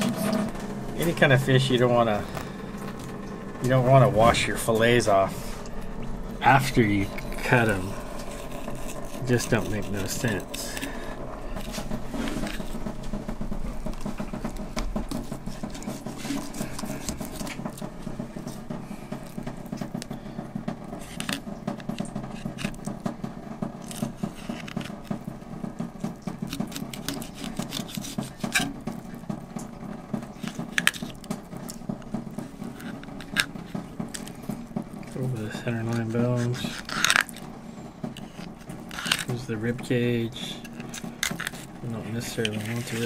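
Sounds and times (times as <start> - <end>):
knife scraping fish: 3.8 - 20.4, 21.0 - 23.0, 23.7 - 35.2, 35.8 - 39.3, 40.4 - 43.0.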